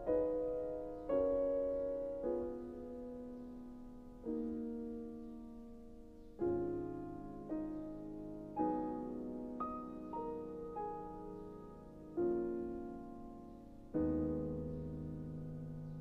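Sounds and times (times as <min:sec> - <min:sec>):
gentle solo piano chords: 0:00.0 - 0:16.0.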